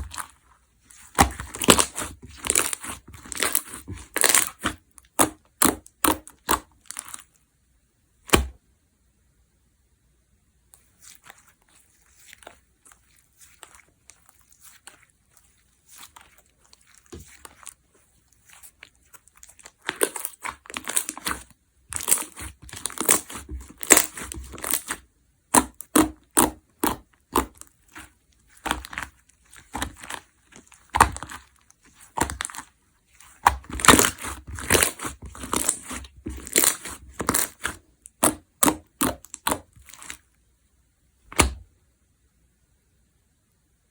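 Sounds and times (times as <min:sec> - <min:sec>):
slime squishing and crackling: 0:00.0 - 0:07.4, 0:10.8 - 0:40.3.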